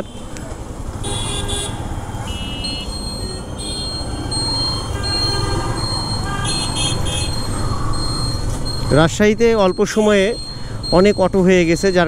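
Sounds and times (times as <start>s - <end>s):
vehicle rings and electronic beeps: 2.3s - 12.0s.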